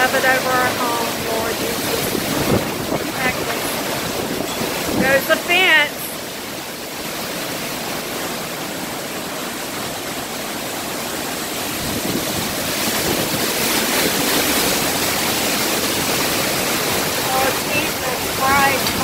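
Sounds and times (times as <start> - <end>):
driving rain: 0.0 - 19.0
hurricane wind: 0.0 - 19.0.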